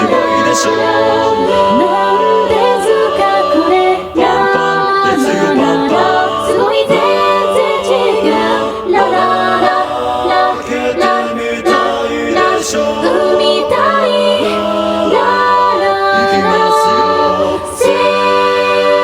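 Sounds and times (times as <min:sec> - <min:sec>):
a cappella chorus singing harmony: 0:00.0 - 0:19.0.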